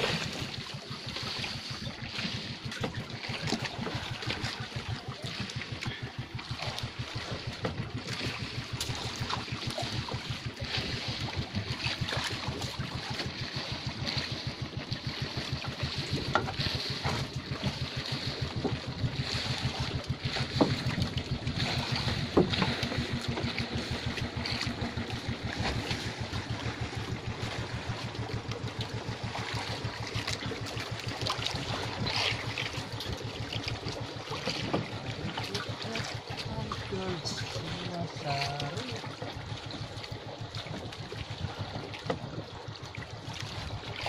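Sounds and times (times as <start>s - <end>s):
boat engine idling: 0.0s - 44.0s
lapping water: 0.0s - 44.0s
wind: 0.0s - 44.0s.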